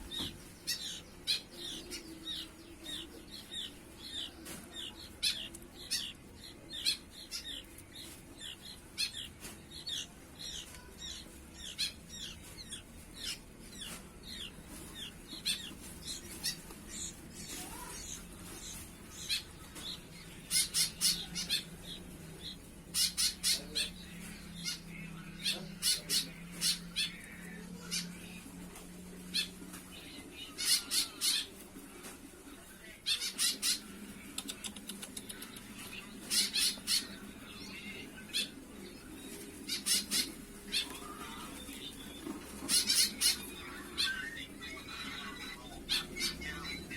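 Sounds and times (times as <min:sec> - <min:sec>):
bird chicks calling: 0:00.0 - 0:28.5, 0:35.4 - 0:46.9.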